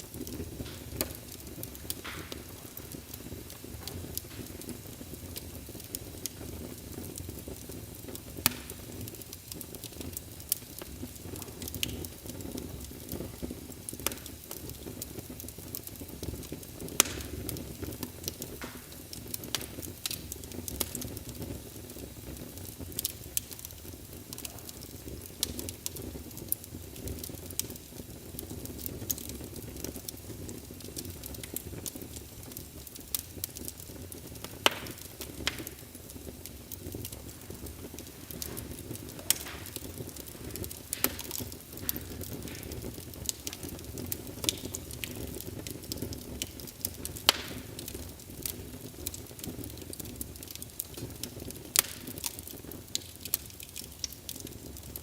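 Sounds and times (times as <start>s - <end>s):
fire pops and snaps: 0.0s - 55.0s
wood fire crackling in fireplace: 0.0s - 55.0s.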